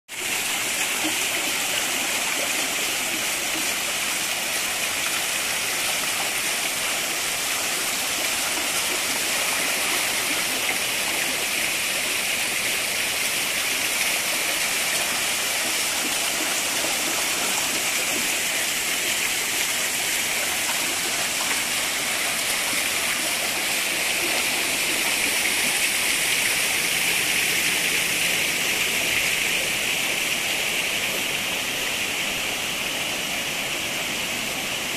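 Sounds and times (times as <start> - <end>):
water cascading over rocks: 0.1 - 34.9.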